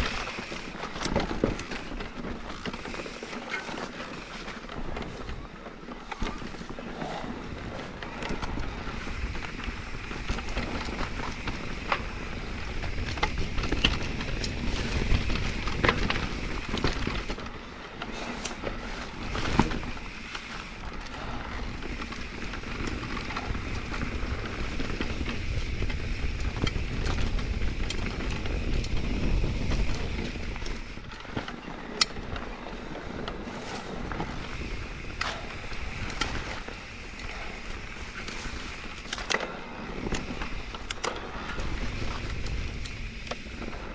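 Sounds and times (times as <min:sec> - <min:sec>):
bike clicks and knocks: 0:00.0 - 0:43.9
wind rumble on camera: 0:00.0 - 0:43.9.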